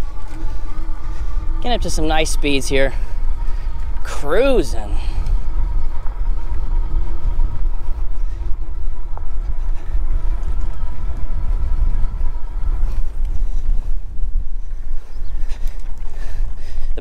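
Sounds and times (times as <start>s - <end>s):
electric motor whining: 0.0s - 16.2s
tyres on dirt: 0.0s - 17.0s
wind rumble on microphone: 0.0s - 17.0s.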